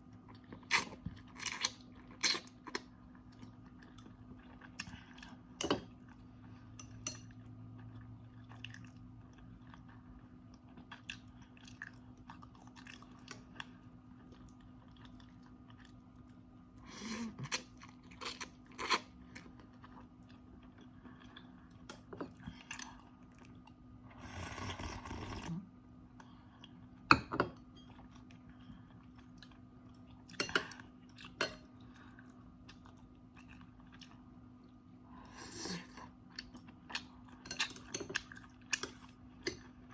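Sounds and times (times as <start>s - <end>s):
chewing and crunching noodles: 0.1s - 16.5s, 17.3s - 25.6s, 27.9s - 34.9s, 35.8s - 39.9s.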